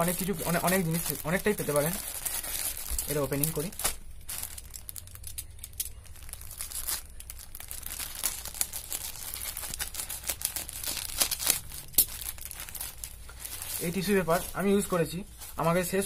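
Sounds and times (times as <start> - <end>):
plastic wrapper crinkling and tearing: 0.0 - 16.0.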